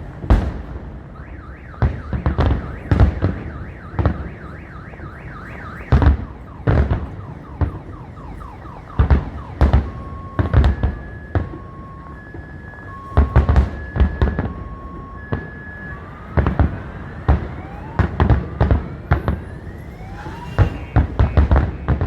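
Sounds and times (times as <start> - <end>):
fireworks bangs: 0.0 - 22.0
car alarm: 1.1 - 22.0.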